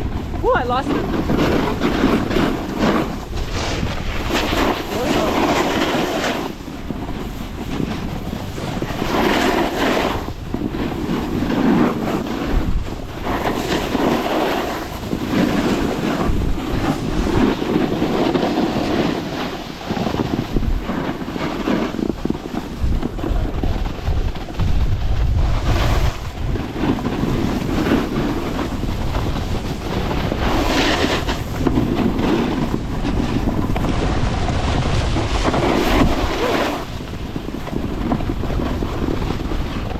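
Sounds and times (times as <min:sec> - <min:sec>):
snowboard edges scraping snow: 0:00.0 - 0:39.9
wind rushing over microphone: 0:00.0 - 0:39.9.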